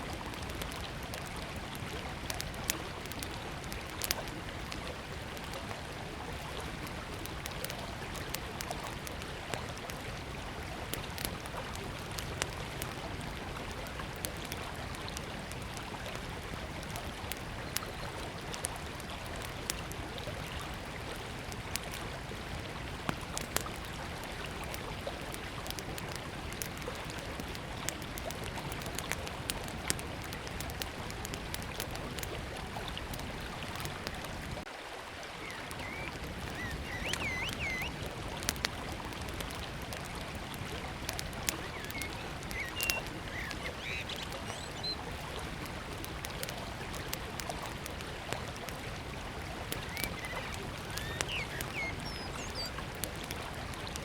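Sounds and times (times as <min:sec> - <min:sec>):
wood fire crackling and popping: 0:00.0 - 0:34.7, 0:35.4 - 0:54.0
river flowing: 0:00.0 - 0:54.0.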